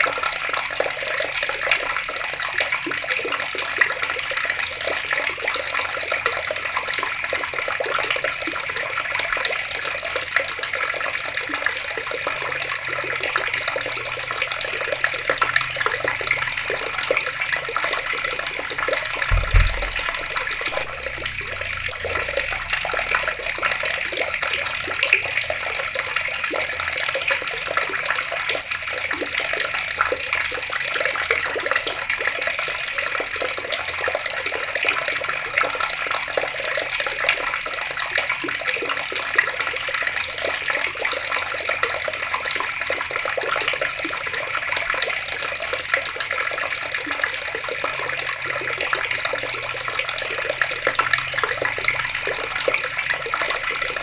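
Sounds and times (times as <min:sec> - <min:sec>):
water running from a tap: 0:00.0 - 0:54.0.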